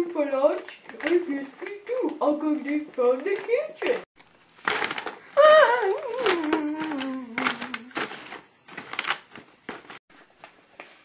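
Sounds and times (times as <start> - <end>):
rustling of bag puppets: 0.0 - 11.0.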